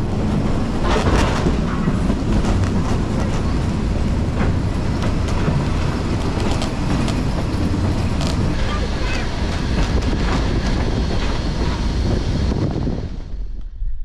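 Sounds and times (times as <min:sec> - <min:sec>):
wheels clicking on rails: 0:00.0 - 0:12.8
train rumbling on track: 0:00.0 - 0:14.0.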